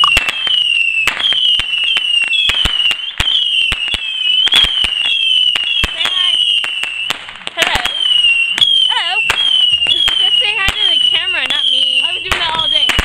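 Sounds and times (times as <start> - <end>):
firework crackling pops: 0.0 - 13.0
firework high whistles: 0.0 - 13.0.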